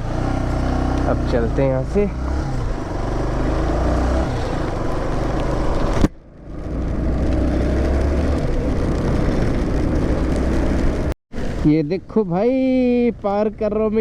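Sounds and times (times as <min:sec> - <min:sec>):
motorcycle engine running: 0:00.0 - 0:11.5
rain and wind on microphone: 0:02.2 - 0:14.0.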